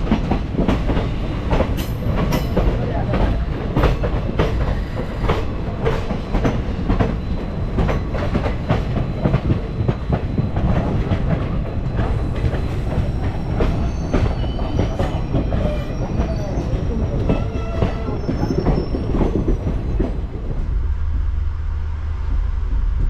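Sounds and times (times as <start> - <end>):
train wheels clattering over rails: 0.0 - 20.8
train rumble: 0.0 - 23.0.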